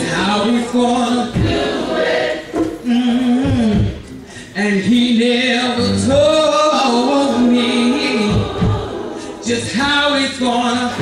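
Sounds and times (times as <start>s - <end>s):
gospel choir singing: 0.0s - 4.1s, 4.8s - 11.0s.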